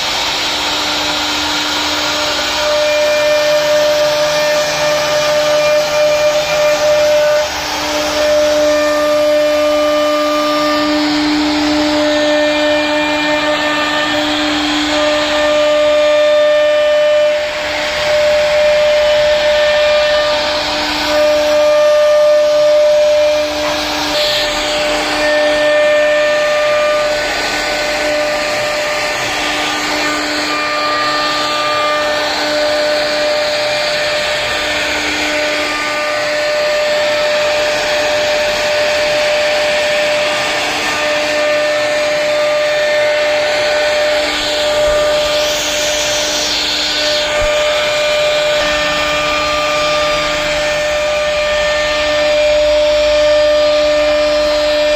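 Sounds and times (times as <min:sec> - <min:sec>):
cnc router spindle whine: 0:00.0 - 0:54.9
router bit cutting wood hiss: 0:00.0 - 0:54.9.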